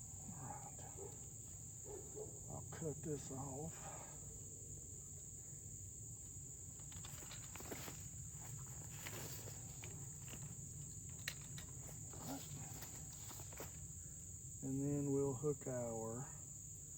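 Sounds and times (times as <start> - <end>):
high-pitched insect chorus: 0.0 - 16.9.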